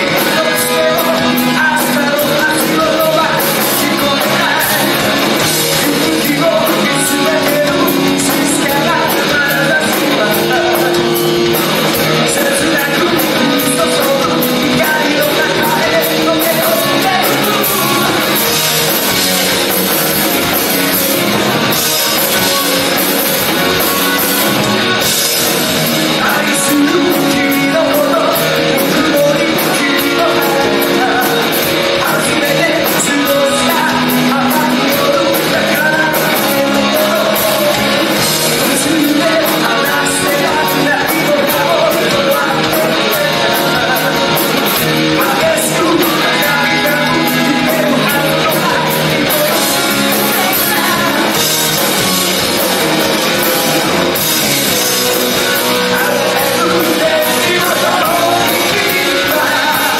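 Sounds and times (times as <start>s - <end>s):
bass guitar: 0.0s - 59.9s
drum kit: 0.0s - 59.9s
electric guitars: 0.0s - 59.9s
lead singer singing: 0.0s - 59.9s.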